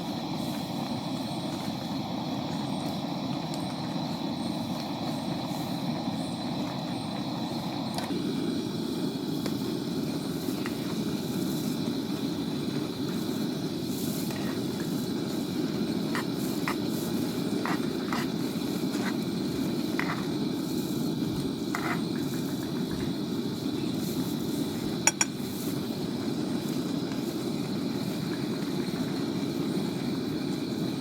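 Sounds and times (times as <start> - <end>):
wind: 0.0 - 31.0.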